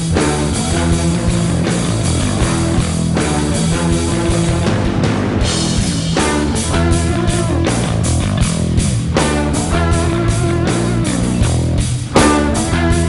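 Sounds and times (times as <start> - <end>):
hard rock music: 0.0 - 13.0.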